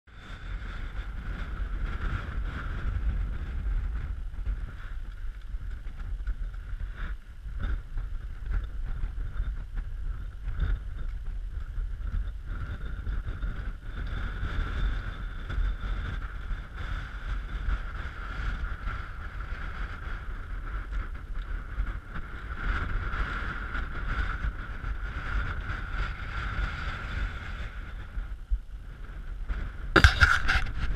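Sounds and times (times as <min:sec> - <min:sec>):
faint steady whine: 0:00.1 - 0:30.9
wind buffeting microphone: 0:00.1 - 0:30.9.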